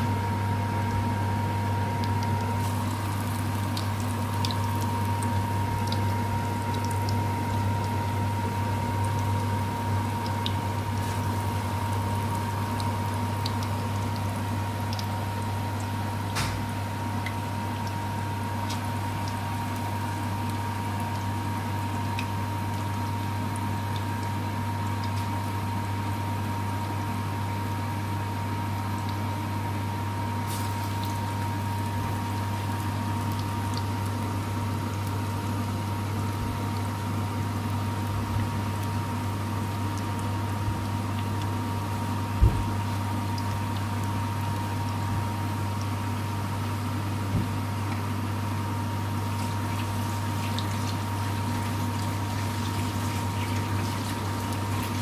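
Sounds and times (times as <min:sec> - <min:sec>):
low hum with thin whine: 0:00.0 - 0:55.0
oil sizzling with pops: 0:00.2 - 0:29.6, 0:30.2 - 0:55.0.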